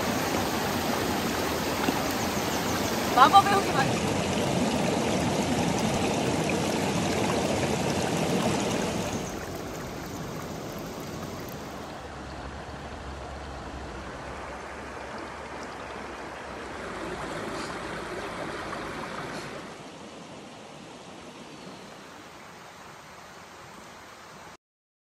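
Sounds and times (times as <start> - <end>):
stream water rushing: 0.0 - 24.6.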